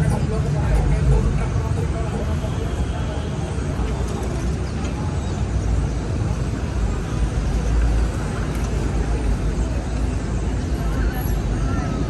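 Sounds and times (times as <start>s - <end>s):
low rumble of passing vehicles: 0.0s - 12.0s.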